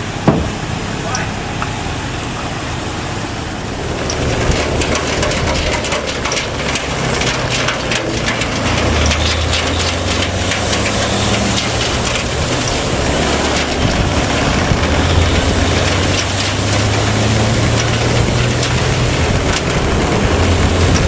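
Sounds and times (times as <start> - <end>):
diesel truck engine pulling uphill: 0.0 - 21.0
sharp clicks and rattles: 3.8 - 21.0.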